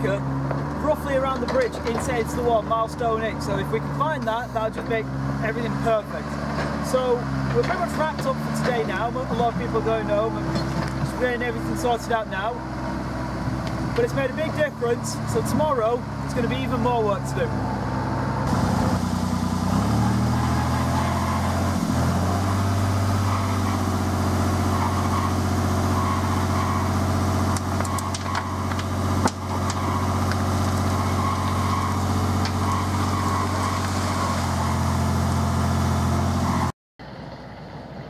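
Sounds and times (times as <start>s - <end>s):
diesel engine revving: 0.0s - 38.0s
hydraulic skip tipping: 0.4s - 12.4s, 17.8s - 36.7s.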